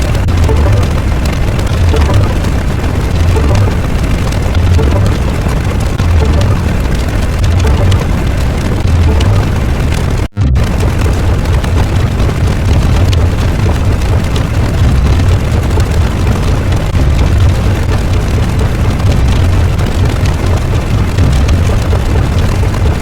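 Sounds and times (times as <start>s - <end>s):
loud continuous rumbling: 0.0s - 23.0s.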